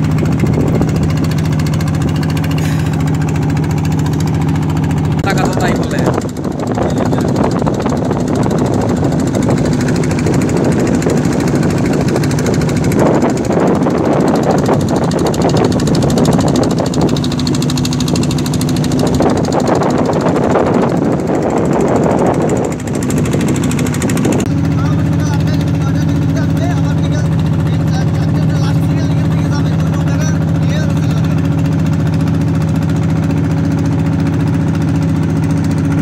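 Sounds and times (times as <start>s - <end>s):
motor boat engine droning: 0.0s - 36.0s.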